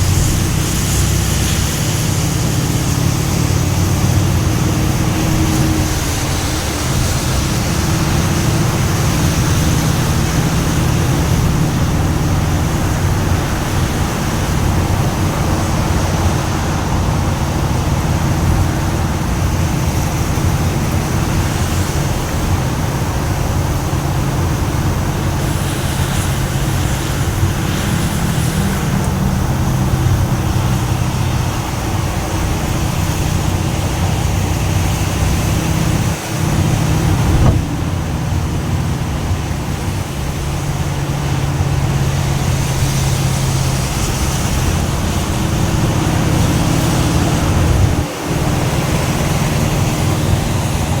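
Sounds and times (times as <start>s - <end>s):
low engine hum: 0.0s - 51.0s
road noise: 0.0s - 51.0s.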